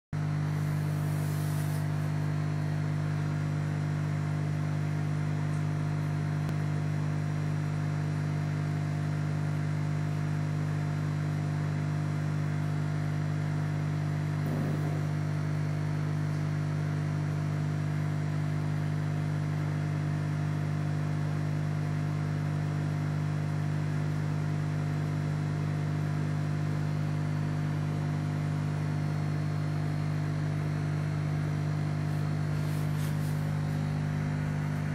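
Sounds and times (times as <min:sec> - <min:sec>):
aquarium pump humming: 0:00.2 - 0:34.9.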